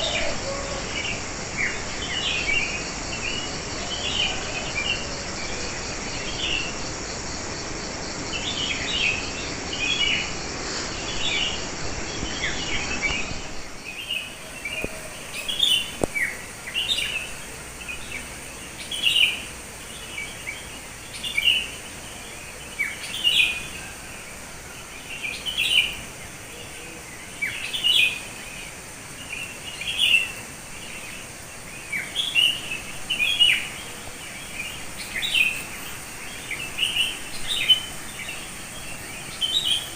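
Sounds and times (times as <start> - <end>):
high insect trill: 0.0 - 39.9
songbirds chirping: 0.0 - 39.9.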